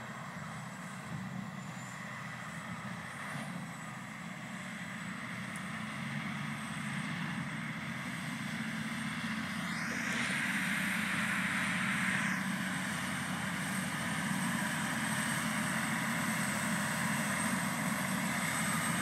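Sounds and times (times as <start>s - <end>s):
tractor diesel engine drone: 0.0s - 19.0s.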